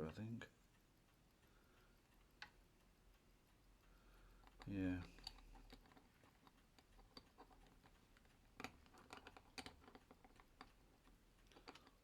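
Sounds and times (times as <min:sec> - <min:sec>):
small clicks of watch parts: 0:00.0 - 0:12.0.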